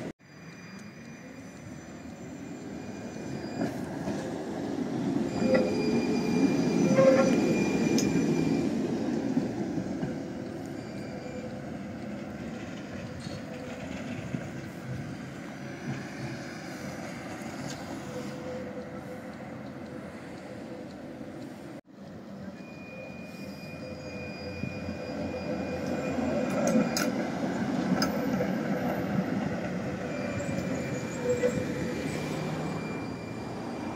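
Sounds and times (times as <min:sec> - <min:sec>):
tram wheels rumbling on rail: 0:00.0 - 0:33.9
wheel squeal: 0:00.2 - 0:20.9, 0:22.3 - 0:33.9.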